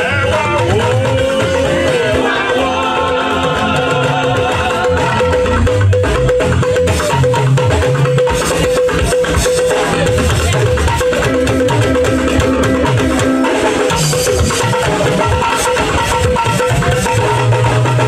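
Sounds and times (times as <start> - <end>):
bass: 0.0 - 18.0
drums and percussion: 0.0 - 18.0
guitar: 0.0 - 18.0.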